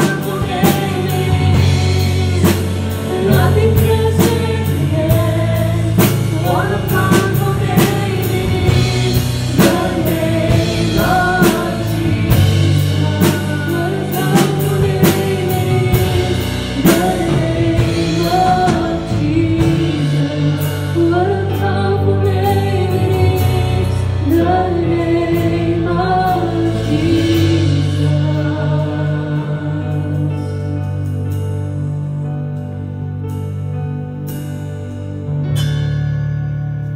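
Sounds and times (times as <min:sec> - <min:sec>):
woman singing: 0:00.0 - 0:31.2
drum kit: 0:00.0 - 0:36.9.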